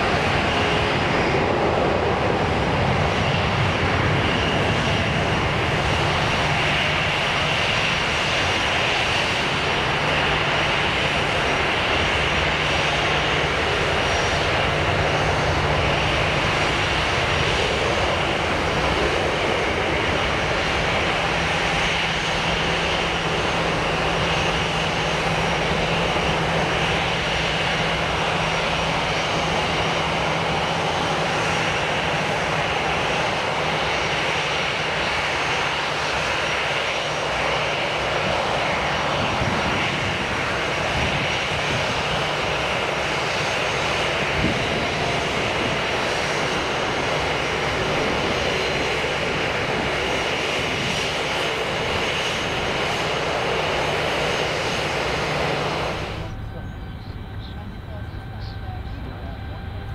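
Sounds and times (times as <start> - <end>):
airliner engines rushing and whining: 0.0 - 59.9.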